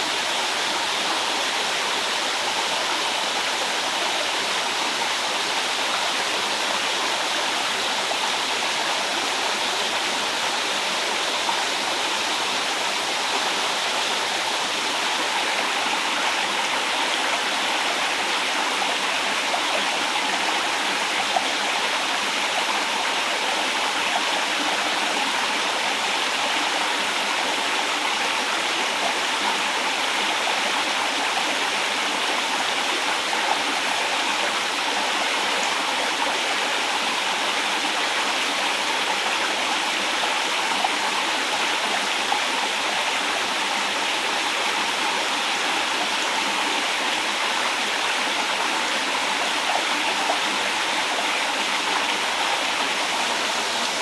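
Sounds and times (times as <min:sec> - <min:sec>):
forest stream rushing: 0:00.0 - 0:54.0.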